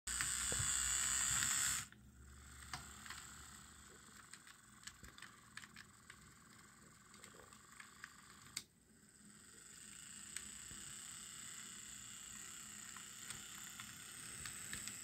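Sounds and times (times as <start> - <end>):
model train motor whirring: 0.1 - 15.0.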